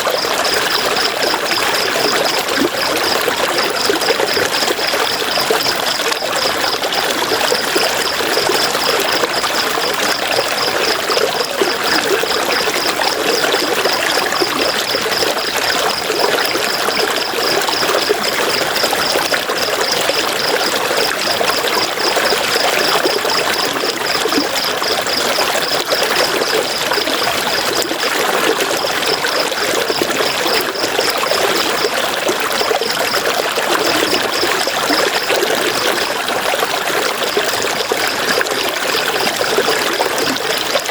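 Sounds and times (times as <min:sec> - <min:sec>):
river water flowing: 0:00.0 - 0:40.8.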